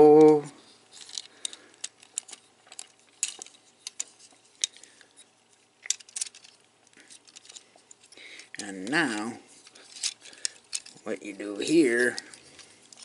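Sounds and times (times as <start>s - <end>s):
plastic toy parts clicking: 0.2s - 13.0s.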